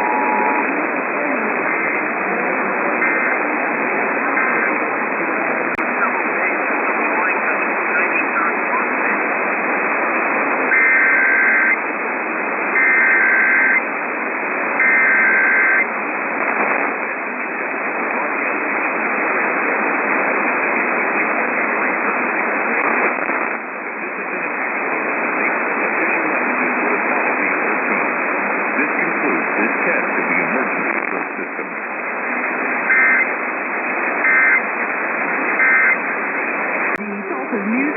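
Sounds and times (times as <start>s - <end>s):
hissy radio static: 0.0s - 37.9s.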